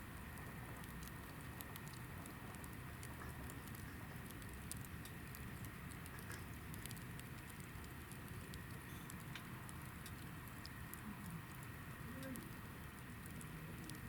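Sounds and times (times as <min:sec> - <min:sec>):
campfire crackling: 0:00.0 - 0:14.0
faint low rumble: 0:00.0 - 0:14.0.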